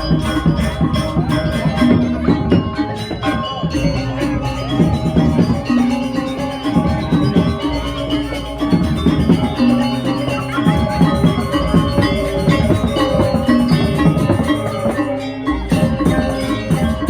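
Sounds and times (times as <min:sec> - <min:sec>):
drums: 0:00.0 - 0:17.0
gamelan metallophones ringing: 0:00.0 - 0:17.0.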